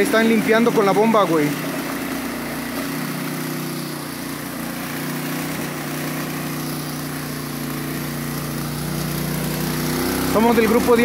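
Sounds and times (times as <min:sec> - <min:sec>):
portable water pump engine running: 0:00.0 - 0:11.0.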